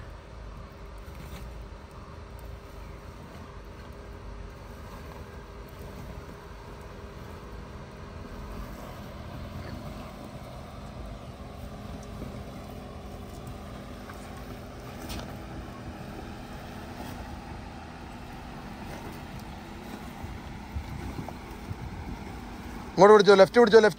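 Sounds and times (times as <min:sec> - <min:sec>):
off-road vehicle engine running: 0:00.0 - 0:23.9.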